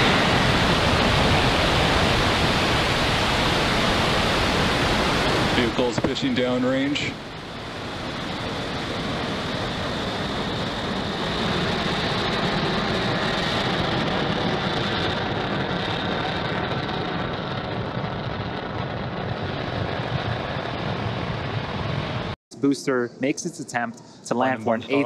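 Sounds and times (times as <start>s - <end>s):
rocket engine roar: 0.0s - 23.7s.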